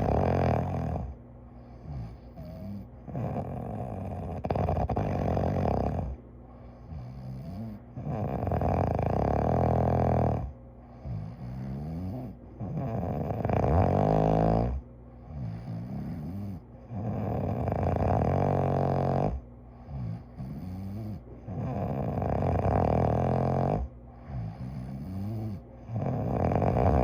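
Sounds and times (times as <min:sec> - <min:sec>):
loud rattling snore: 0:00.0 - 0:01.2, 0:01.8 - 0:06.2, 0:06.8 - 0:27.0
soft wheezy breathing: 0:00.0 - 0:27.0.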